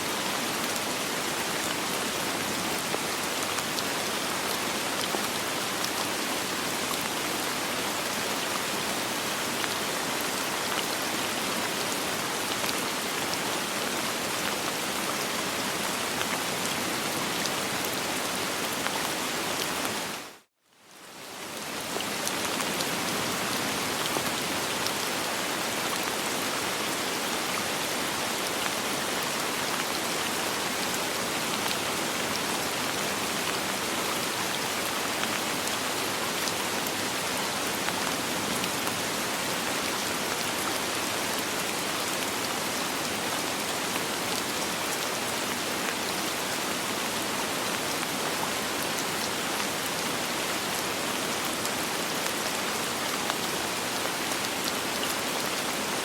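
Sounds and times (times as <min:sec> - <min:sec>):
soft rainfall: 0:00.0 - 0:56.0.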